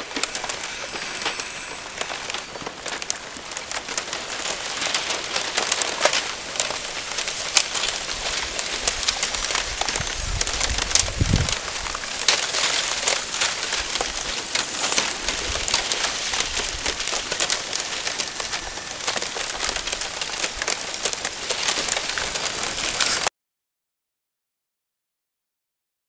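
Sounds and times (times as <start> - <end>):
slush and ice crackling: 0.0 - 23.3.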